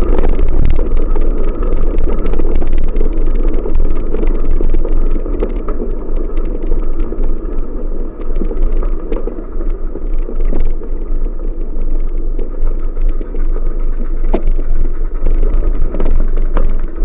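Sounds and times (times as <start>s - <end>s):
bicycle clicks and rattles: 0.0s - 17.0s
wind buffeting microphone: 0.0s - 17.0s.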